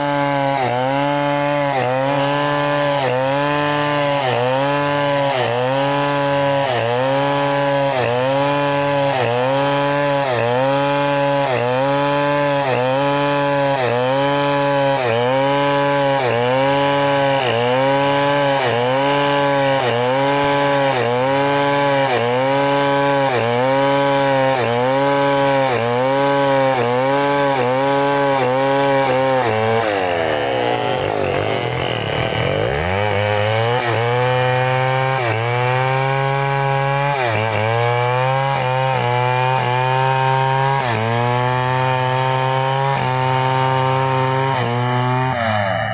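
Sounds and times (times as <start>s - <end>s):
chainsaw cutting through log: 0.0s - 45.9s.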